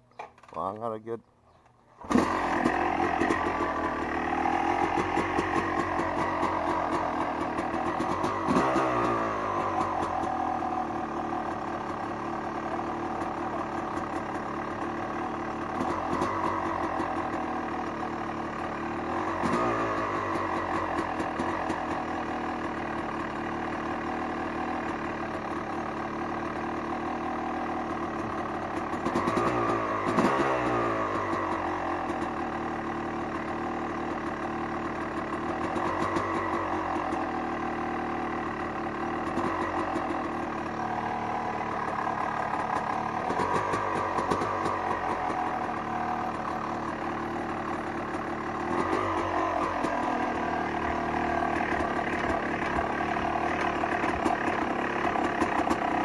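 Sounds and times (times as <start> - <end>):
dirt bike engine idling: 0.0 - 56.0.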